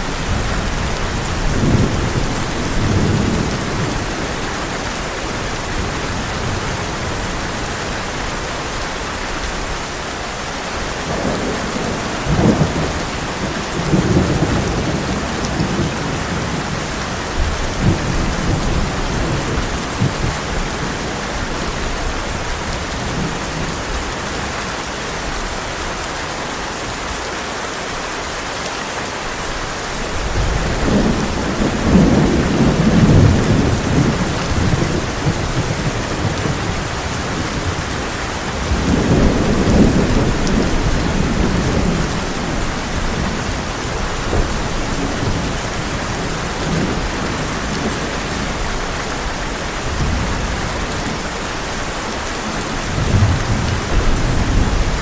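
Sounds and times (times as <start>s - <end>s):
thunder rumbling: 0.0s - 8.3s, 11.0s - 24.5s, 30.1s - 55.0s
heavy rain on a tin roof: 0.0s - 55.0s.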